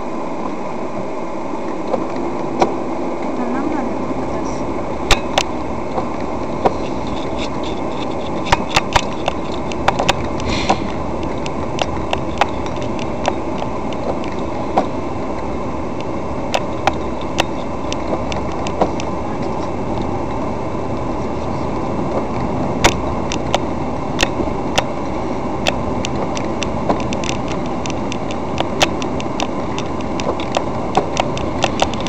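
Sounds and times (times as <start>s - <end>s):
car engine and tyre noise: 0.0s - 32.0s
sharp clicks and ticks: 5.1s - 21.1s, 21.8s - 32.0s.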